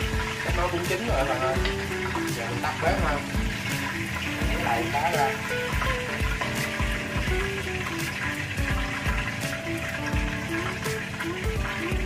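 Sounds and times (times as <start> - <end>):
background music with beat: 0.0 - 12.0
hot oil frying hiss: 0.0 - 12.0.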